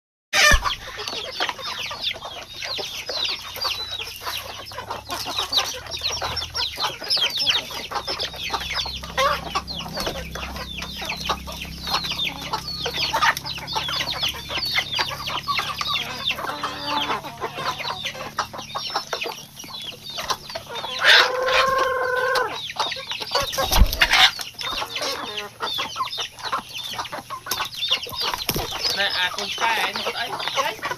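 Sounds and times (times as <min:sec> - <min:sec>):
chicken drawn-out call: 0:00.4 - 0:30.9
chickens clucking: 0:00.4 - 0:30.9.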